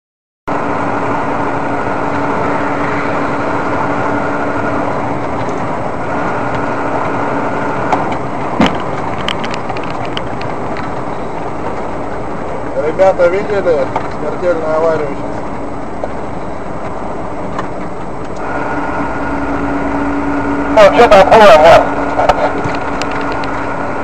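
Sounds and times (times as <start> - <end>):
car engine and road noise: 0.5 - 24.0
steady hum: 0.5 - 24.0.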